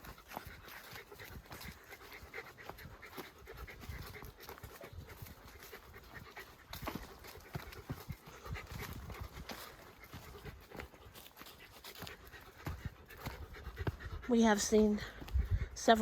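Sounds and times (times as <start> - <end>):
footsteps on a trail: 0.0 - 16.0
panting breaths: 0.0 - 16.0.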